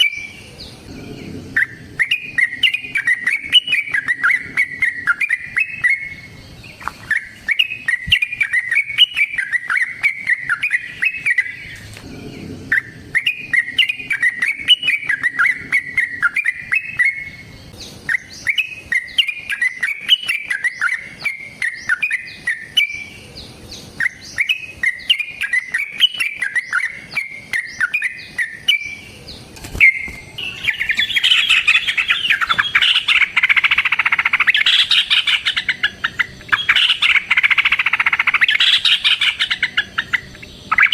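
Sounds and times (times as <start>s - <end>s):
bird singing bubbling chirps: 0.0s - 40.9s.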